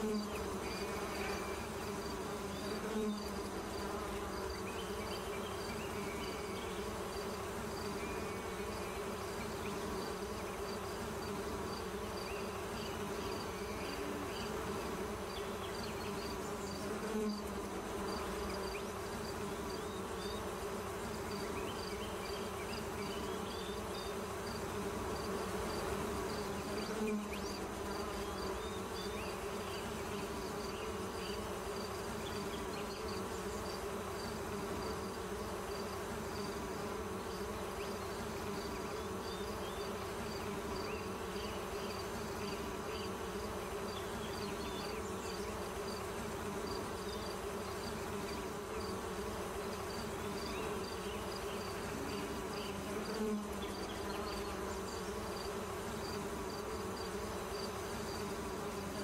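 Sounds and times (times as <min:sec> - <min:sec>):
insect buzzing: 0:00.0 - 0:59.0.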